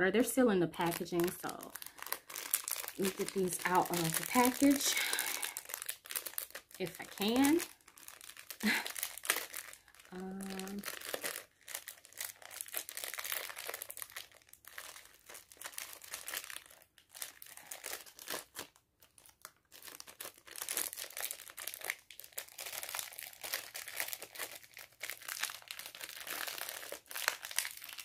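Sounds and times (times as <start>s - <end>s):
plastic packaging crinkling: 0.2s - 28.0s.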